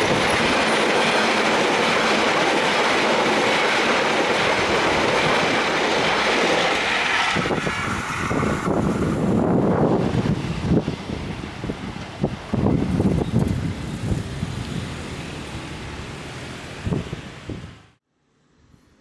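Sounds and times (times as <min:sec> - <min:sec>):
clickety-clack of train wheels: 0:00.0 - 0:17.8
train wheels rushing on rails: 0:00.0 - 0:18.0.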